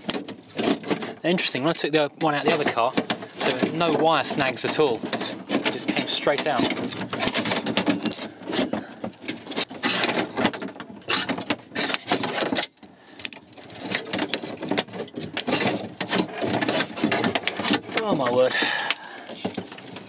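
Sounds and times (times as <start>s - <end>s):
metal cables rattling against door: 0.0s - 20.0s.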